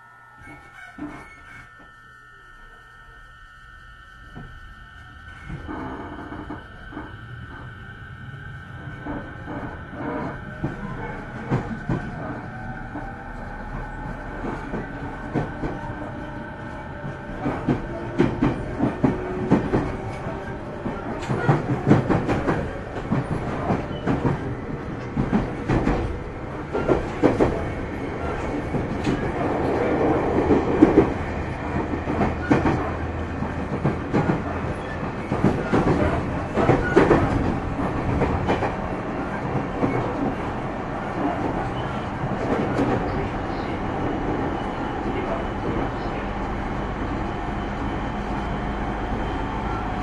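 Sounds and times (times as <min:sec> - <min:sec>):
electric train motors whining: 0:00.0 - 0:50.0.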